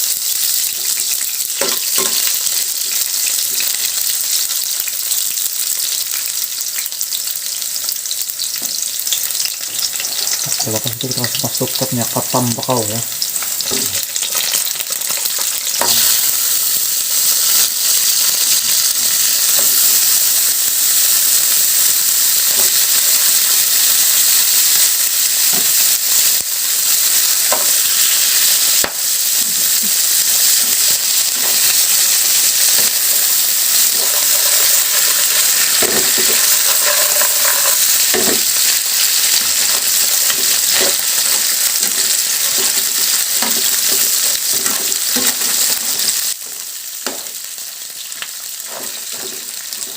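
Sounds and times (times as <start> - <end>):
crab pieces sizzling in oil: 0.0 - 49.9.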